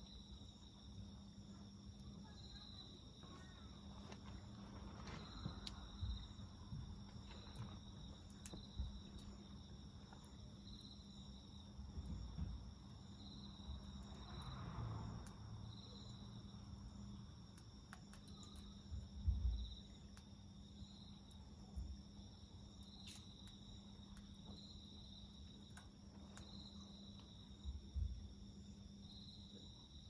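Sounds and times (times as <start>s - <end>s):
wood fire crackling: 0.0s - 29.8s
crickets chirping: 0.0s - 30.0s
high insect trill: 0.0s - 30.0s.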